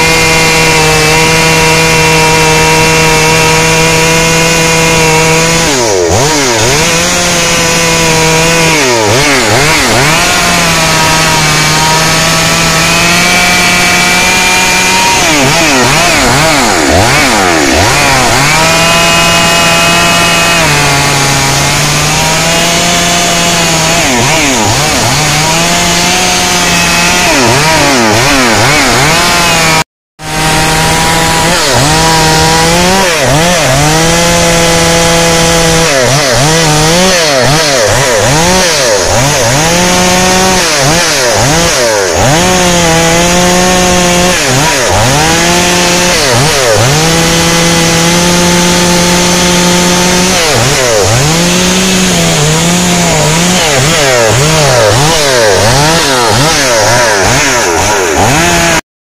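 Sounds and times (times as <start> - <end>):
chainsaw cutting a log: 0.0 - 58.9.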